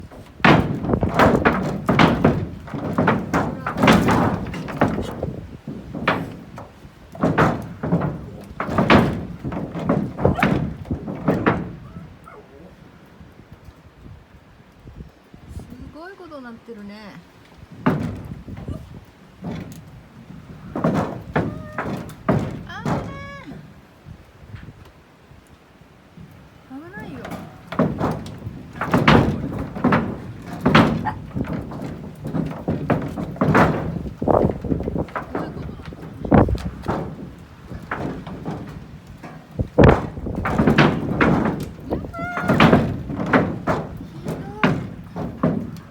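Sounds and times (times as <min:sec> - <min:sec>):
roofing sheet banging and rattling: 0:00.0 - 0:13.9, 0:17.2 - 0:45.9
strong wind: 0:00.0 - 0:45.9.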